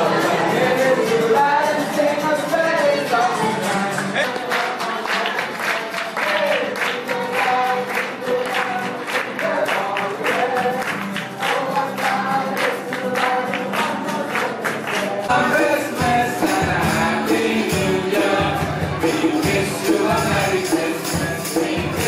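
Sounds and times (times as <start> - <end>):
group of voices singing: 0.0 - 22.0
strummed acoustic guitar: 0.0 - 22.0.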